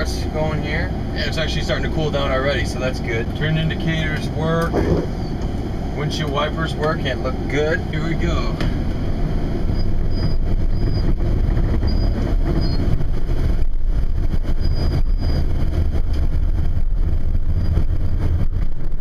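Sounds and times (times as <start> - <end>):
road noise: 0.0 - 19.0
truck engine running: 0.0 - 19.0.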